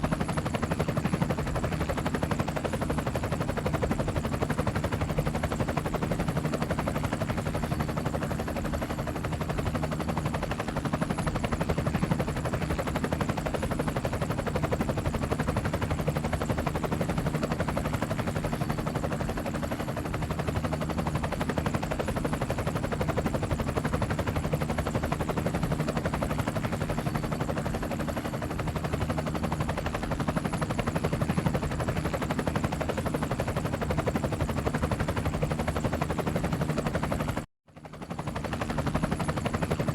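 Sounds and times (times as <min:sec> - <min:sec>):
helicopter engine hum: 0:00.0 - 0:39.9
helicopter rotor chopping: 0:00.0 - 0:39.9.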